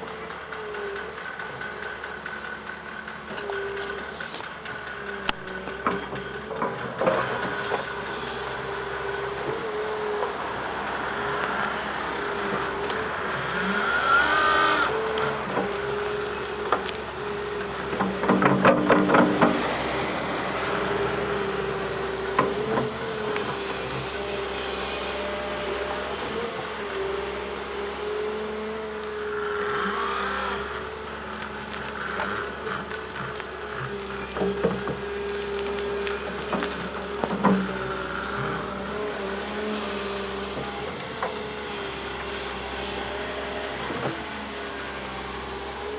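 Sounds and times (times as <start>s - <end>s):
diesel engine running: 0.0s - 45.9s
whining tone: 0.0s - 45.9s.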